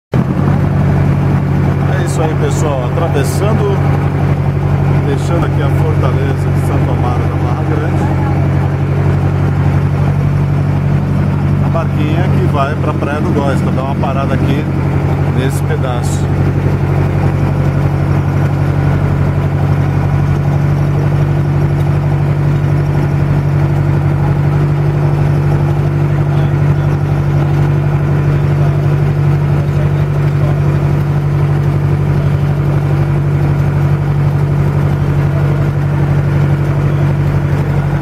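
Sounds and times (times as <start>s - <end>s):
boat engine droning: 0.1s - 38.0s.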